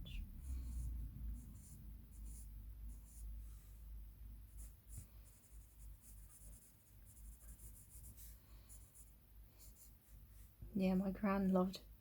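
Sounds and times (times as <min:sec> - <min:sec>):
pencil scratching on paper: 0:00.2 - 0:03.8, 0:04.5 - 0:10.6.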